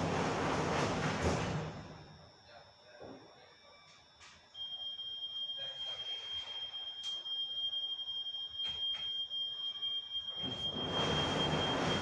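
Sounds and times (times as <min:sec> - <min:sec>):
high-pitched warning tone: 0:02.4 - 0:12.0.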